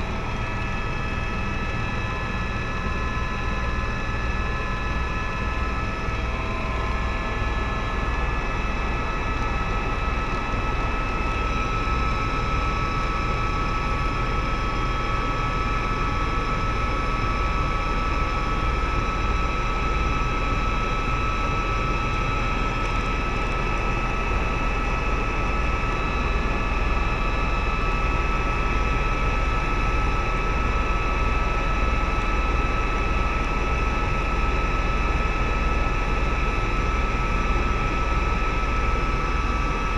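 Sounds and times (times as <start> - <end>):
helicopter engine and rotor rumble: 0.0 - 39.9
helicopter high-pitched whine: 0.0 - 39.9.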